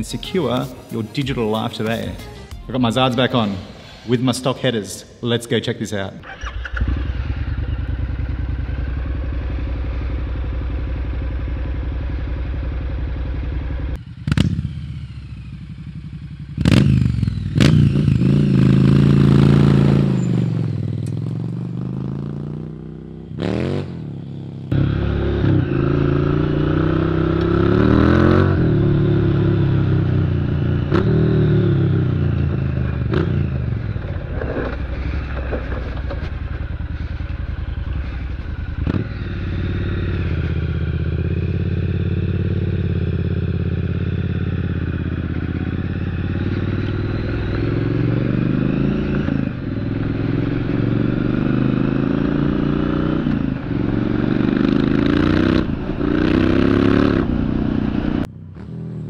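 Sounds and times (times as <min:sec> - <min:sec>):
motorcycle engine accelerating: 0:06.2 - 0:59.0.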